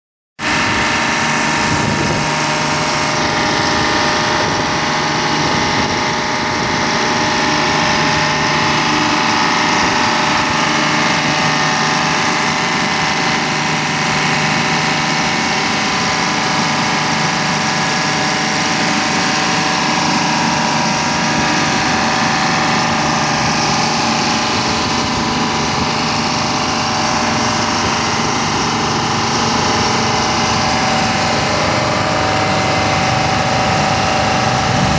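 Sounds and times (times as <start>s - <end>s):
diesel engine running: 0.4s - 34.9s
machine whining tones: 0.4s - 34.9s.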